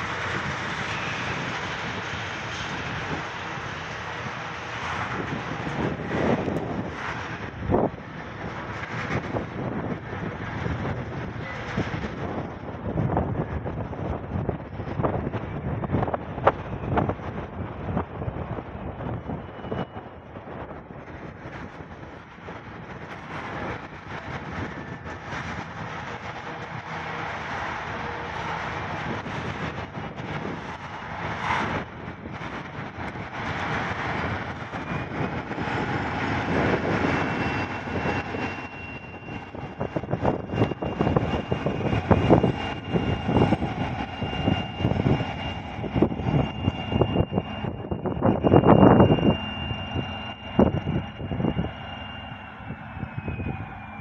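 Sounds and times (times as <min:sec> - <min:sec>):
diesel locomotive engine: 0:00.0 - 0:54.0
wind buffeting microphone: 0:00.0 - 0:54.0.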